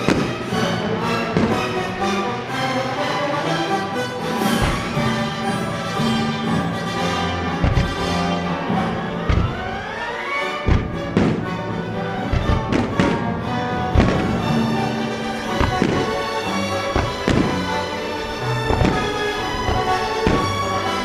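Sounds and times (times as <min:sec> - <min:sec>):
fireworks booming: 0:00.0 - 0:02.1, 0:04.3 - 0:21.0
music playing: 0:00.0 - 0:21.0.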